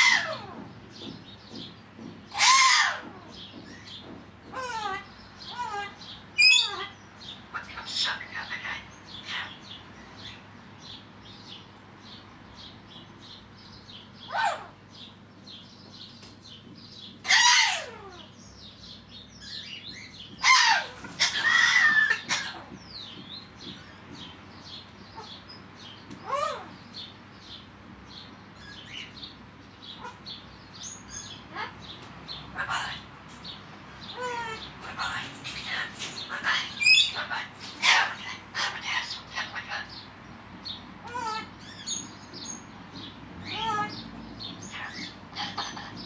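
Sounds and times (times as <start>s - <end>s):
corella calling: 0.0s - 11.6s, 13.9s - 40.2s, 40.9s - 46.0s
small birds chirping: 0.0s - 46.0s.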